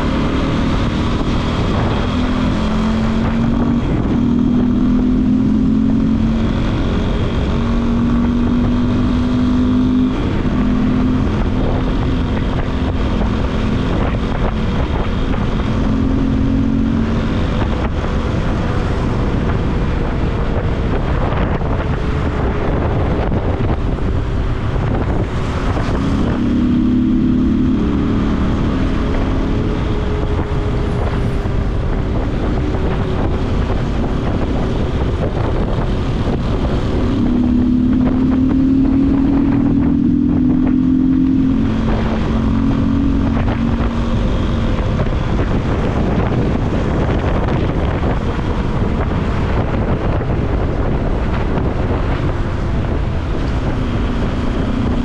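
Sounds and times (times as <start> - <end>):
motorcycle engine accelerating: 0.0 - 55.0
wind rush on microphone: 0.0 - 55.0.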